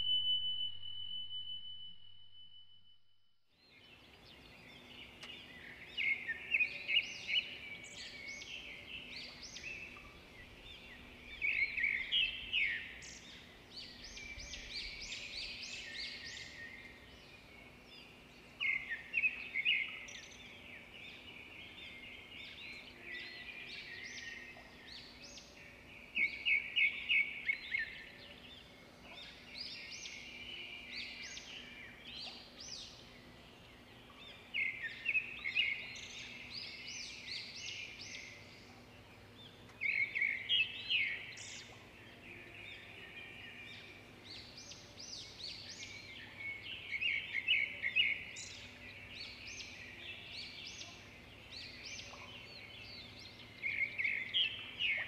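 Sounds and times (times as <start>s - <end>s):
birds chirping: 3.7s - 55.0s.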